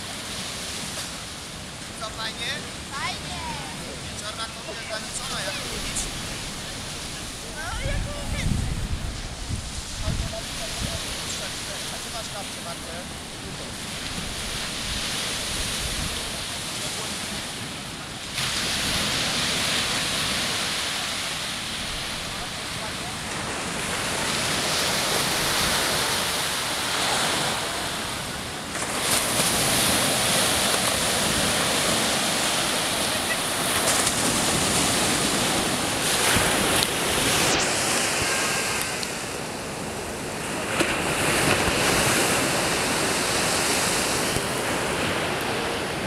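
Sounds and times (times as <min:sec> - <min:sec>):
surf breaking on sandy beach: 0:00.0 - 0:46.0.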